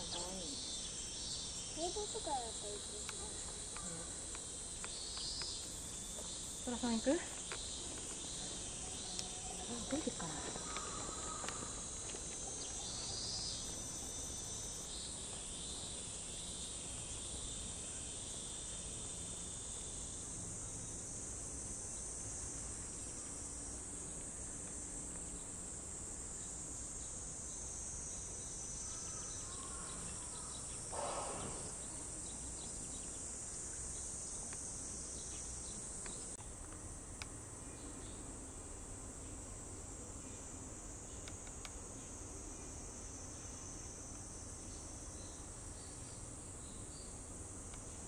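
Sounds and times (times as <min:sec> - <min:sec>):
cicadas singing: 0:00.0 - 0:48.0.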